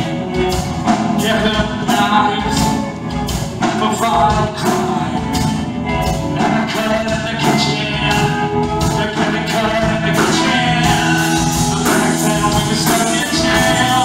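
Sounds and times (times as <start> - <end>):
man singing into a microphone: 0.0 - 3.0, 3.6 - 14.0
drums: 0.0 - 14.0
electric guitars: 0.0 - 14.0.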